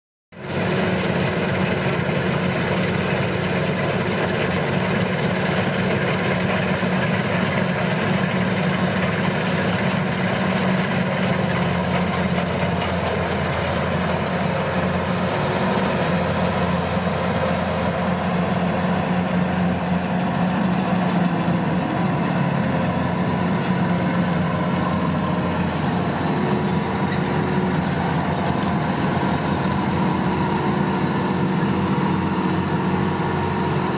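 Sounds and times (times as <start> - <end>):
harvester engine humming: 0.4 - 33.9.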